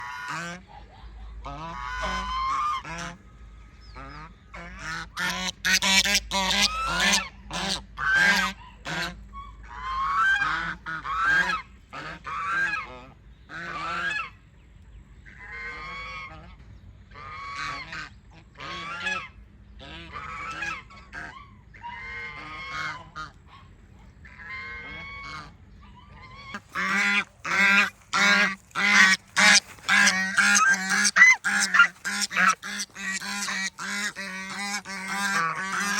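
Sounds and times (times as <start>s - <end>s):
goose honking: 0.0s - 0.8s, 1.4s - 3.2s, 3.9s - 14.3s, 15.3s - 16.5s, 17.2s - 35.9s.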